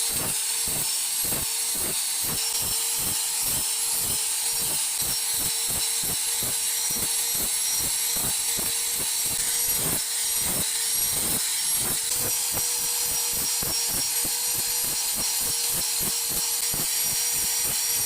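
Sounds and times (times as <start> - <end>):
electric grinder on steel: 0.0 - 18.0.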